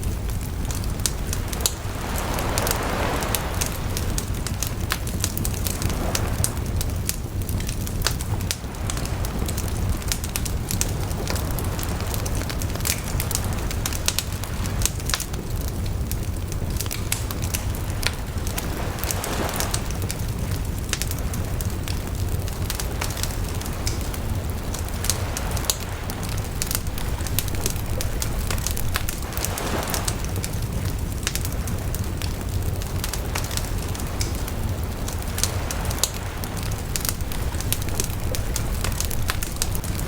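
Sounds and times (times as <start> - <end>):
bonfire crackling and popping: 0.0 - 40.0
low rumble of flames: 0.0 - 40.0.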